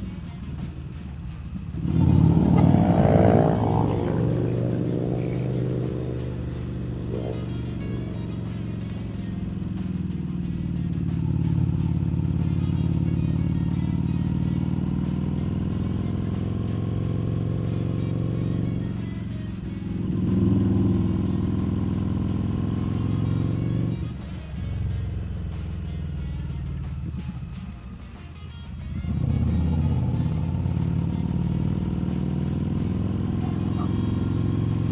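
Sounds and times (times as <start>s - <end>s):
motorcycle engine on the road: 0.0s - 34.9s.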